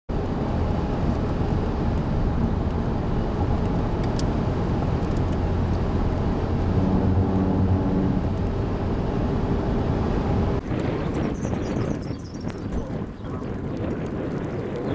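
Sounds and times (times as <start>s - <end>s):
car driving at highway speed: 0.1s - 14.8s
low hum: 0.1s - 14.9s.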